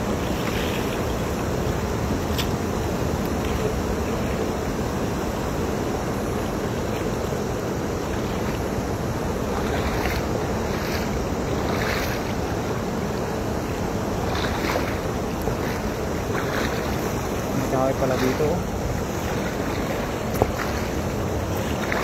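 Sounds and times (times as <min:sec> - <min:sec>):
river water rushing: 0:00.0 - 0:22.0
water splashes: 0:00.0 - 0:22.0.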